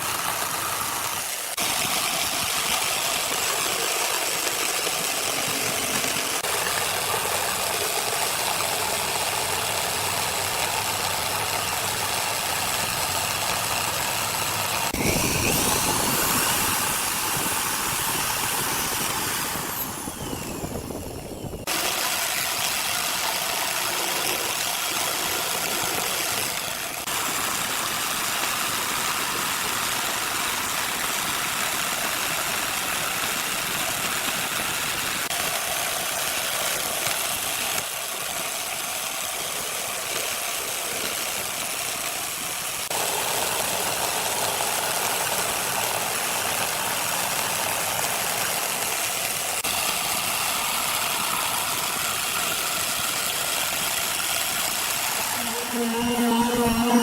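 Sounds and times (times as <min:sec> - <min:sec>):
small motor running with hiss: 0:00.0 - 0:57.0.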